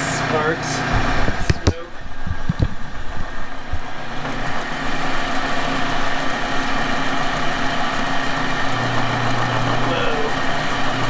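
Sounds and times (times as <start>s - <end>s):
milling machine motor hum: 0.0s - 11.0s.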